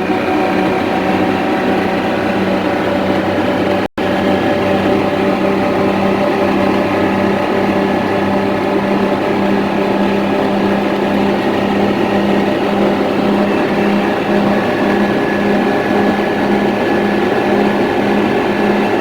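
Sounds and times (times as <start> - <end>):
diesel truck engine droning: 0.0 - 19.0.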